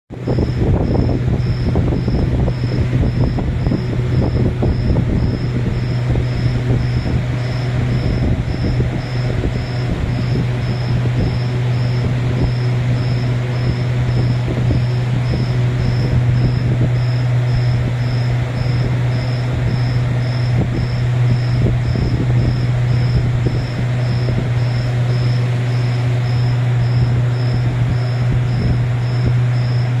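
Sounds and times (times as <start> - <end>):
loud low hum: 0.1 - 30.0.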